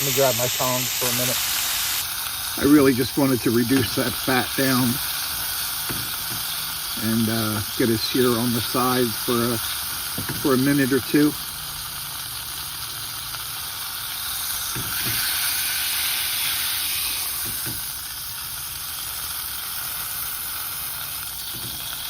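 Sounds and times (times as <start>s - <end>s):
steak sizzling in a frying pan: 0.0s - 22.0s.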